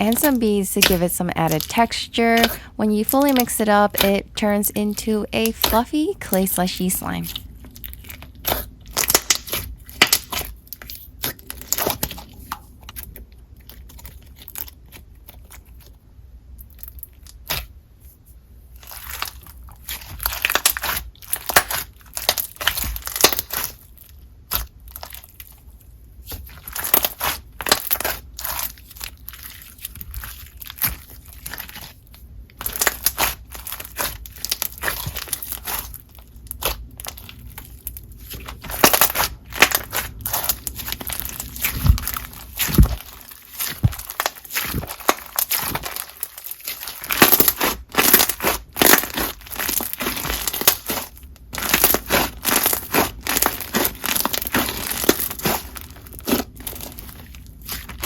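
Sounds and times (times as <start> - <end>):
slime crunching and crackling: 0.0 - 4.2, 5.4 - 17.8, 18.7 - 58.0.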